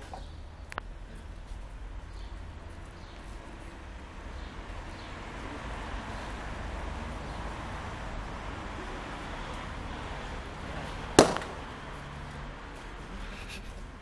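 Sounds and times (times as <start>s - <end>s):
street rumble with hiss: 0.0s - 14.0s.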